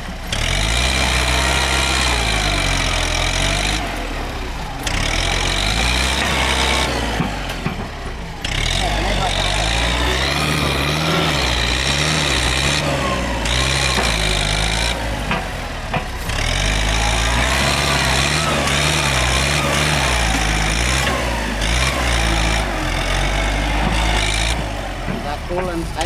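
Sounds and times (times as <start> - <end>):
dozer blade pushing soil: 0.0 - 26.0
tractor engine under load: 0.0 - 26.0.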